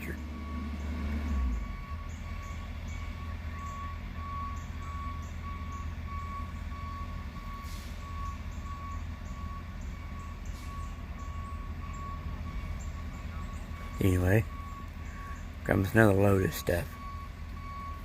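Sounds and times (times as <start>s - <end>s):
backup alarm beeping: 0.0s - 18.0s
diesel engine rumble: 0.0s - 18.0s.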